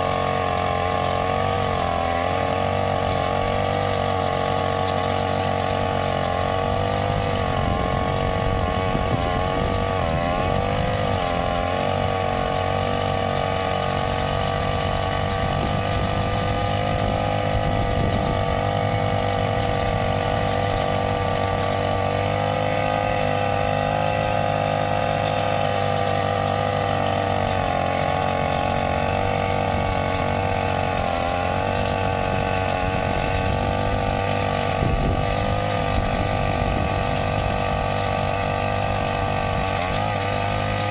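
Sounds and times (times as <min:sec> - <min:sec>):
brush-cutter engine running: 0:00.0 - 0:40.9.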